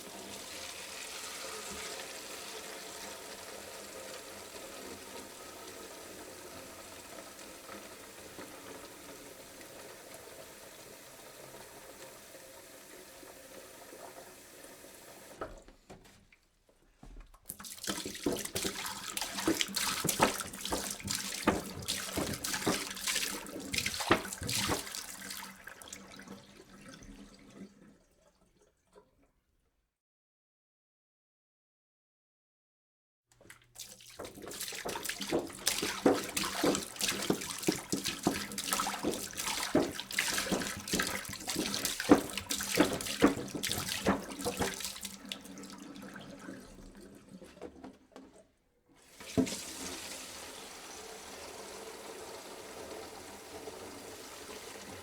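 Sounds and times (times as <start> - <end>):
water pouring into a jug: 0.0 - 15.5, 17.5 - 29.2, 33.4 - 48.4, 49.0 - 55.0.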